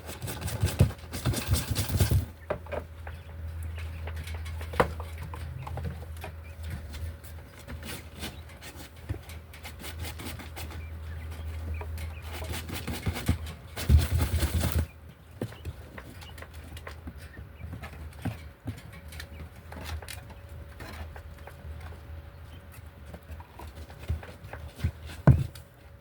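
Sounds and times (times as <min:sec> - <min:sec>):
birds clucking: 0:00.0 - 0:26.0
light tapping and scratching: 0:00.0 - 0:26.0.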